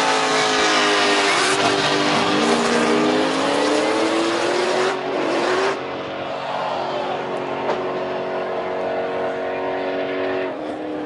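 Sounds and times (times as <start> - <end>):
car engines at full throttle: 0.0 - 11.0.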